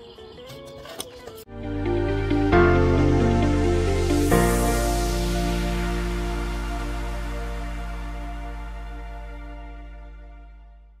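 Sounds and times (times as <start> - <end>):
background music with deep bass: 1.5 - 11.0.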